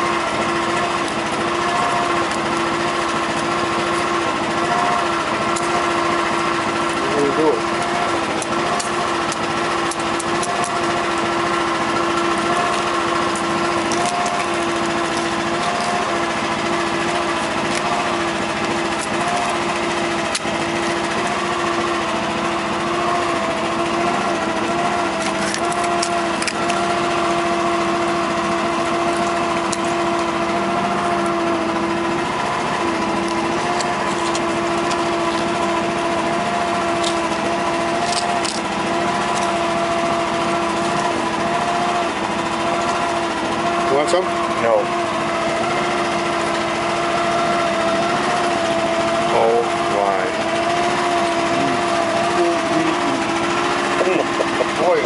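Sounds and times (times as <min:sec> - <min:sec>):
boat engine droning with whine: 0:00.0 - 0:55.0.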